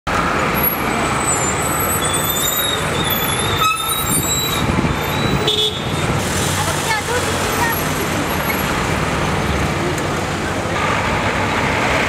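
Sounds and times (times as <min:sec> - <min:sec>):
car and truck engines running: 0:00.1 - 0:12.0.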